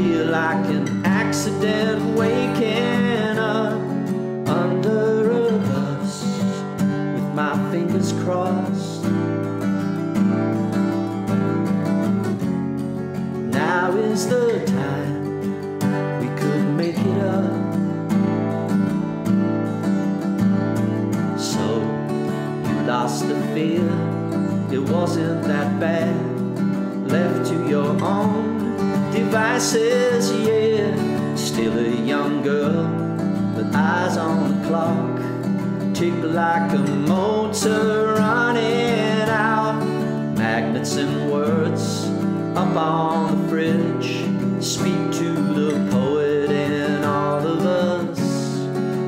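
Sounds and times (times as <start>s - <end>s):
person singing: 0.0s - 9.5s, 13.2s - 18.7s, 19.9s - 49.0s
acoustic guitar strumming: 0.0s - 49.0s.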